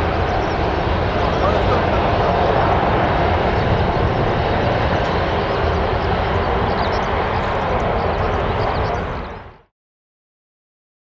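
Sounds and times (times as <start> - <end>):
jet engines at taxi power: 0.0 - 9.7.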